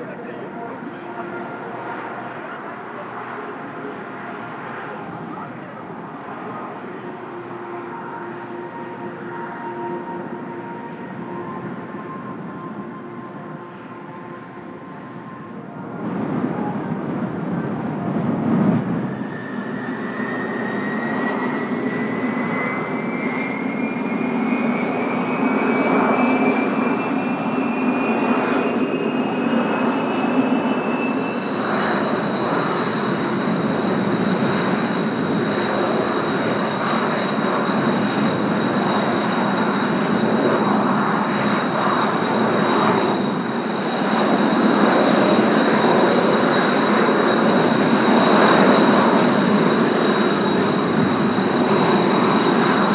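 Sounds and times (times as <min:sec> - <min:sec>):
jet engines rumbling at idle: 0:00.0 - 0:52.9
jet engines whining: 0:00.0 - 0:52.9.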